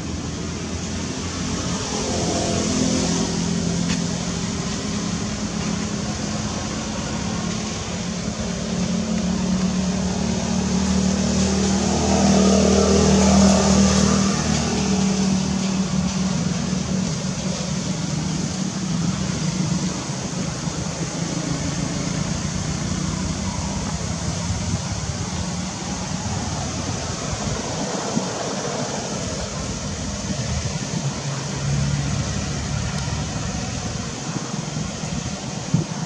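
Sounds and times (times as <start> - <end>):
engine hum: 0.0 - 36.0.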